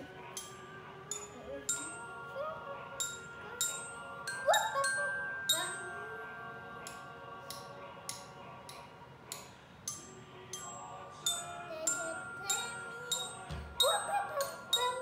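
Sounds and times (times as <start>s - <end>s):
glockenspiel notes: 0.0s - 7.3s, 9.9s - 15.0s.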